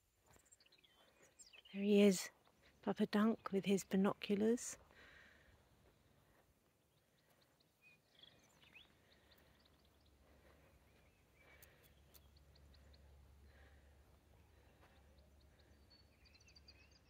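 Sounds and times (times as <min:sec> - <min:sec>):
faint distant birdsong: 0:00.0 - 0:17.0.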